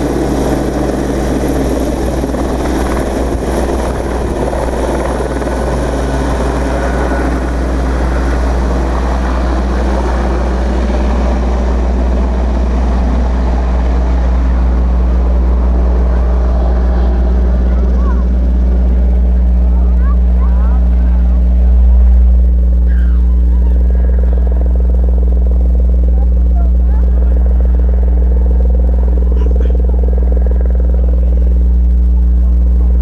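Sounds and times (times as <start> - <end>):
helicopter rotor drone: 0.0 - 33.0.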